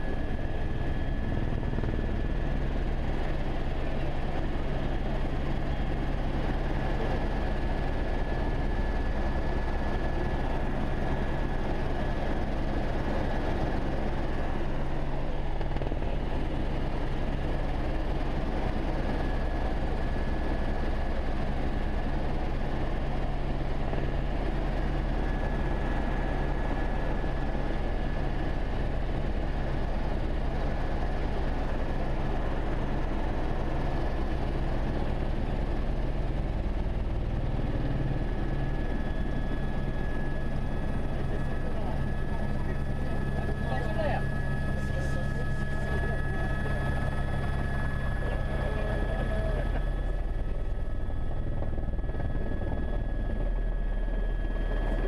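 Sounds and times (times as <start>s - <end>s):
helicopter rotor and engine drone: 0.0s - 55.0s
high turbine whine: 0.0s - 55.0s.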